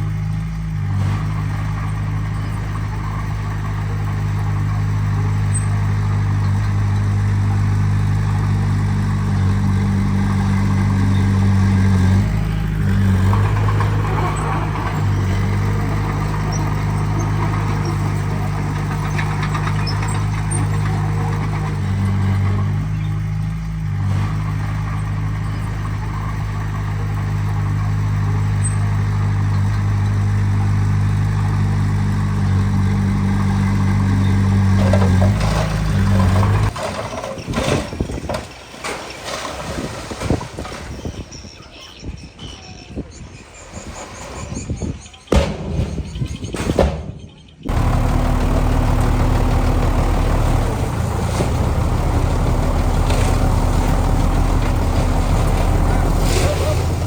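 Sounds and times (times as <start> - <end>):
heavy diesel engine running: 0.0 - 38.8, 47.7 - 57.0
clatter: 0.0 - 41.2, 43.8 - 57.0.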